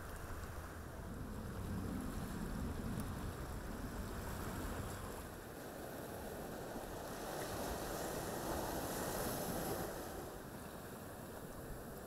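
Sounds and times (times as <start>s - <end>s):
surf washing over rocky shore: 0.0s - 12.0s.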